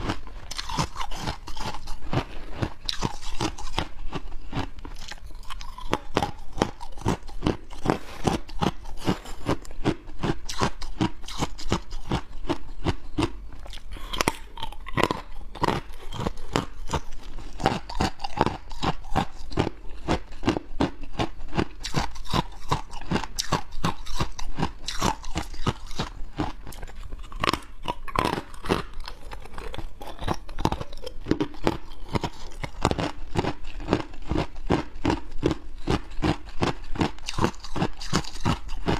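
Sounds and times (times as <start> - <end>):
person crunching ice: 0.0 - 38.9.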